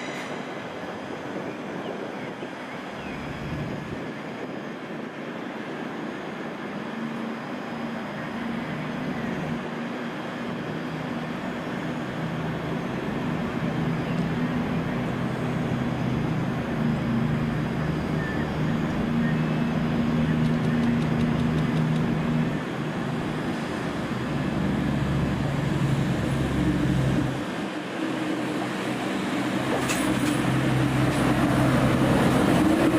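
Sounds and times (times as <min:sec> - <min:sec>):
train humming: 0:00.0 - 0:32.9.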